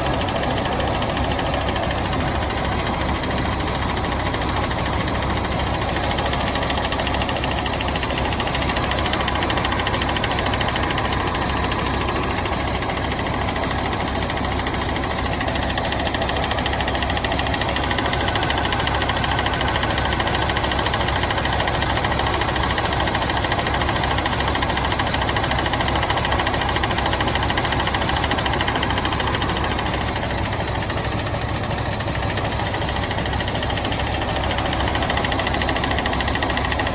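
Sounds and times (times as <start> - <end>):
bus diesel engine running: 0.0 - 36.9.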